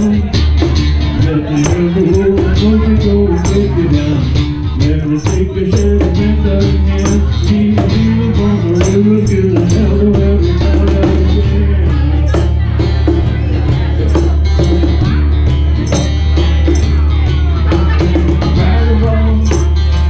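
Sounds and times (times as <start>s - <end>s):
acoustic folk band playing: 0.0s - 20.0s
cajon steady beat: 0.0s - 20.0s.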